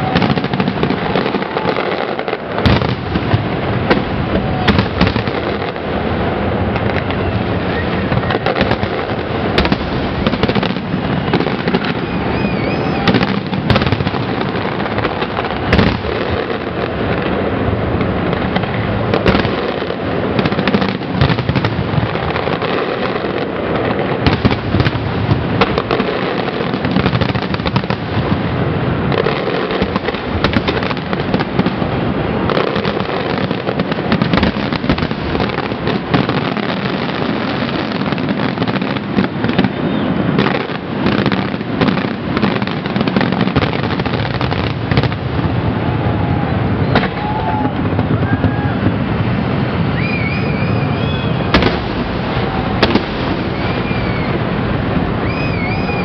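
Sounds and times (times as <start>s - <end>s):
fireworks rumble and crackle: 0.0s - 56.0s.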